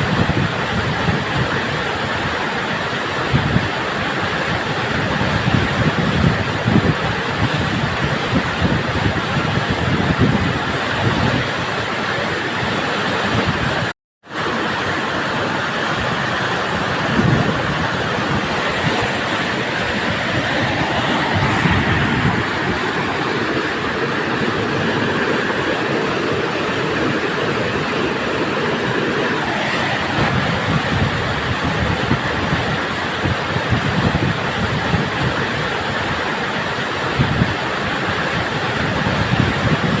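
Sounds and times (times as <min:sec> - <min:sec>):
river rapids rushing: 0:00.0 - 0:40.0.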